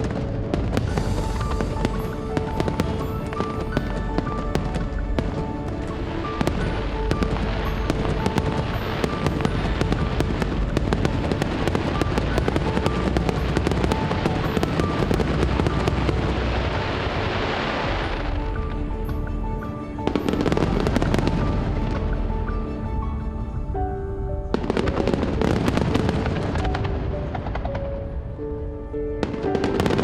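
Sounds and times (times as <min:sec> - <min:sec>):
fireworks bangs: 0:00.0 - 0:22.6, 0:24.5 - 0:28.2, 0:29.2 - 0:30.0
fireworks crackling: 0:00.0 - 0:22.8, 0:24.5 - 0:28.5, 0:29.2 - 0:30.0
background music: 0:00.0 - 0:30.0.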